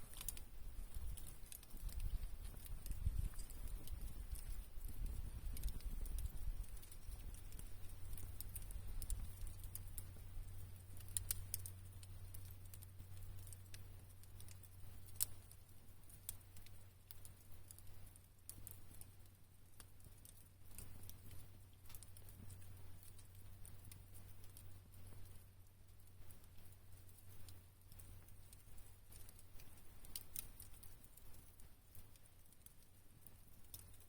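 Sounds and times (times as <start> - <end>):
low steady rumble: 0.0 - 32.2
campfire crackling and popping: 0.0 - 34.0.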